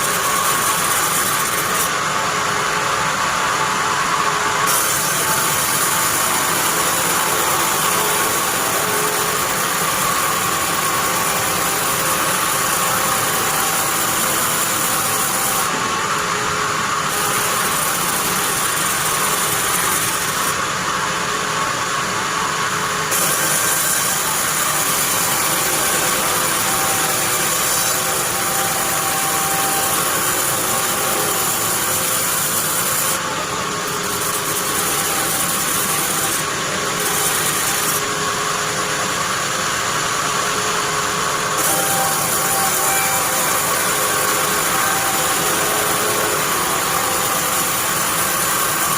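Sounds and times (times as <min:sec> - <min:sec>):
bandsaw running: 0:00.0 - 0:48.9
high machine whine: 0:00.0 - 0:48.9.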